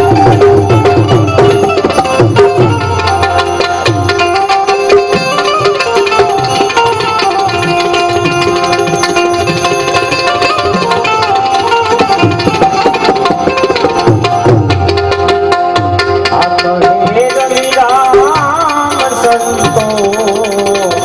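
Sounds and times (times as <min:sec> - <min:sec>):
harmonium melody: 0:00.0 - 0:21.0
tabla beat: 0:00.0 - 0:21.0.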